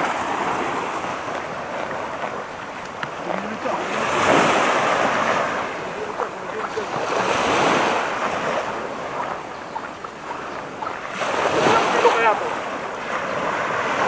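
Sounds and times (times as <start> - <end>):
small waves washing onto sand: 0.0 - 14.0.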